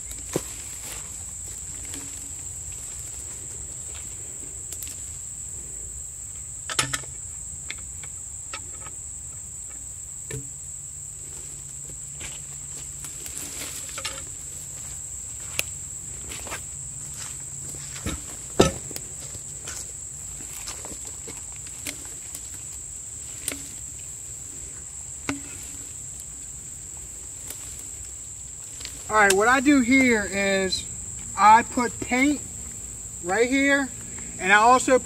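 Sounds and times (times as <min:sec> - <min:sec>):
high insect drone: 0:00.0 - 0:35.0.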